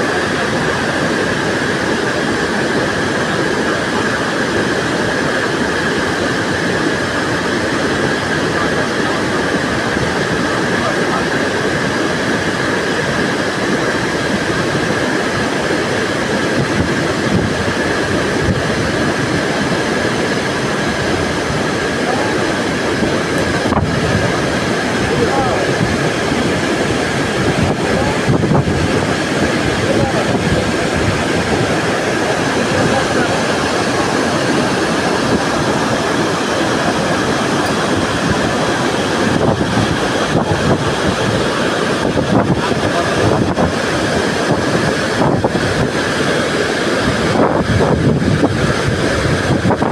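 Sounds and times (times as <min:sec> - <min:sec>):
waterfall rushing over rocks: 0:00.0 - 0:49.9.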